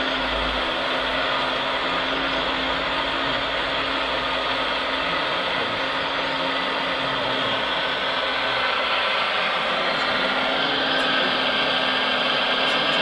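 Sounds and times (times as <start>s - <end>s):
model excavator hydraulic whir: 0.0s - 13.0s.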